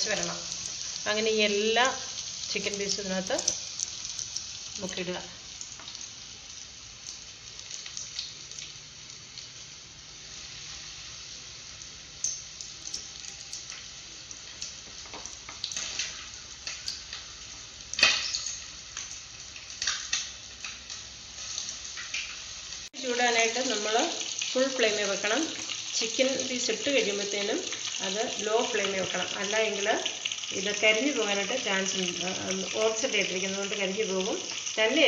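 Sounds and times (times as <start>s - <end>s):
chicken deep-frying in oil: 0.0s - 35.0s.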